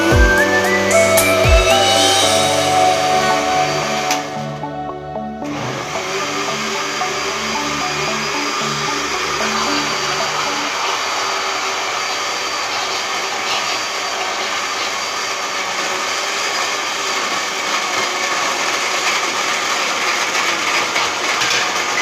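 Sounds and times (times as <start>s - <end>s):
electric blender whirring: 0.0s - 4.7s, 5.4s - 22.0s.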